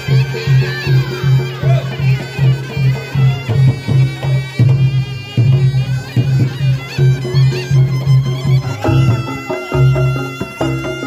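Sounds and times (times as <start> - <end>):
drum and gong beat: 0.0 - 11.0
reedy shawm melody: 0.0 - 11.0.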